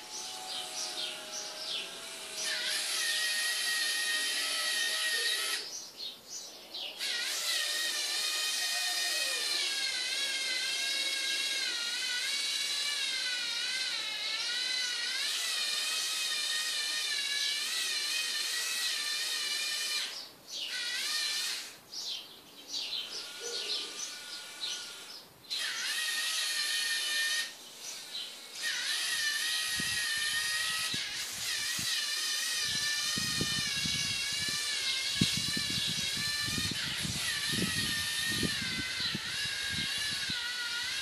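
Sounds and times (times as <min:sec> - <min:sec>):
toy servo motors whining: 0:00.0 - 0:05.8, 0:07.0 - 0:41.0.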